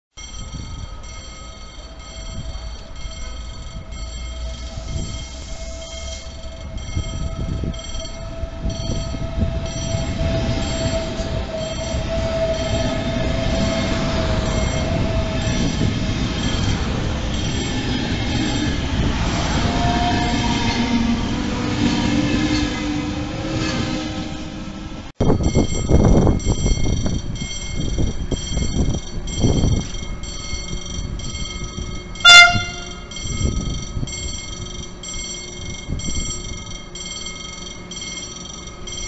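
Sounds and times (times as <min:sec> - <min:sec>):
train wheels rumbling: 0:00.2 - 0:39.0
train whine: 0:00.2 - 0:39.0.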